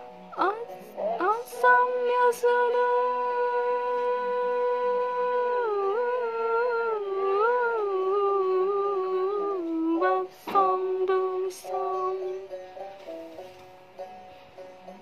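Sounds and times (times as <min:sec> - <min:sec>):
person humming mournful melody: 0:00.4 - 0:12.4.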